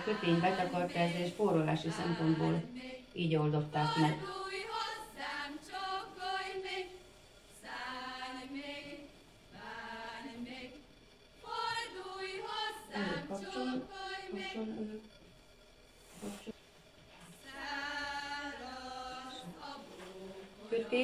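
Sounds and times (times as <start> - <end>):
group singing unaccompanied: 0.0 - 15.1, 17.2 - 21.0.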